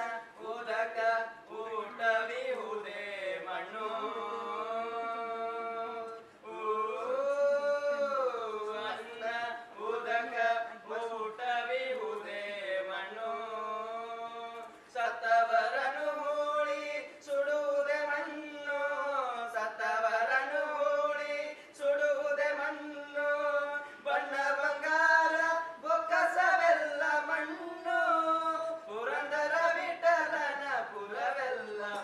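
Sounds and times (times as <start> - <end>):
men singing a chant: 0.0 - 32.0.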